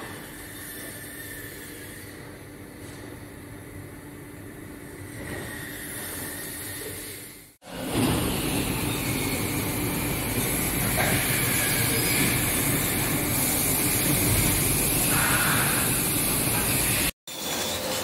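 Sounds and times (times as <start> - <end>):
machinery rumble and hiss: 0.1 - 17.8.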